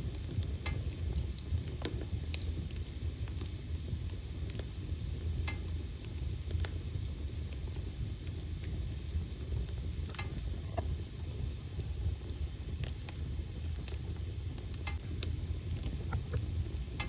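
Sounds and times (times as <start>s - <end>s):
wood fire rumbling and hissing: 0.0s - 17.0s.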